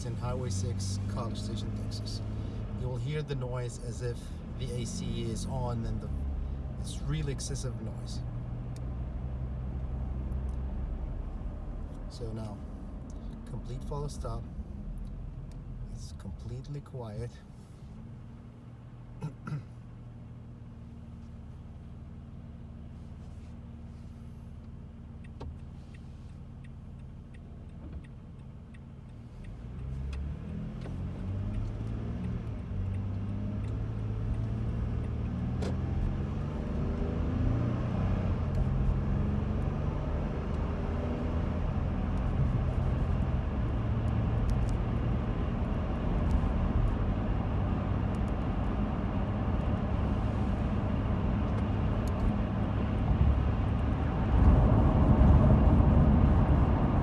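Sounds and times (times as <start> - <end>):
car engine idling and accelerating: 0.0 - 57.0
road and wind noise: 0.0 - 57.0.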